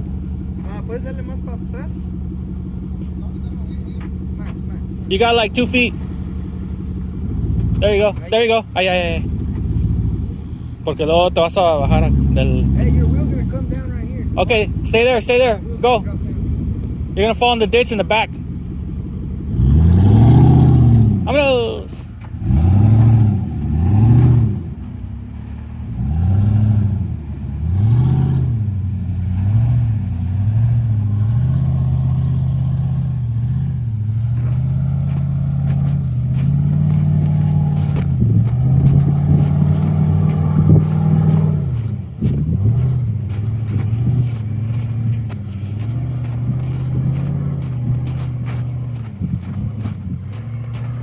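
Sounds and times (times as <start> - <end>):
off-road vehicle engine revving: 0.0 - 51.0.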